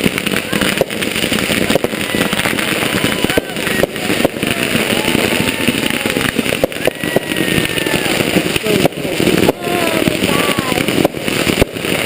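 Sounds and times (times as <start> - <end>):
fireworks crackling and popping: 0.0 - 12.0
whistling fireworks: 0.0 - 12.0.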